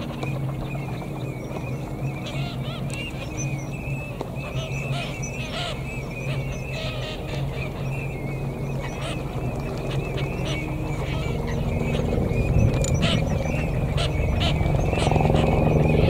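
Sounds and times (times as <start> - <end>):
ducks calling: 0.0 - 16.0
steady low hum: 0.0 - 16.0.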